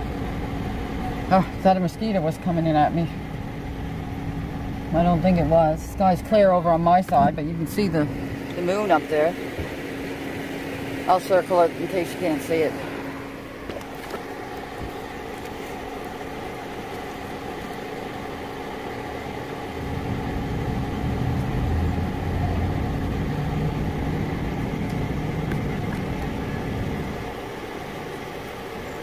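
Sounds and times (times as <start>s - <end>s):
car engine and road noise: 0.0s - 29.0s
low engine rumble: 0.0s - 29.0s.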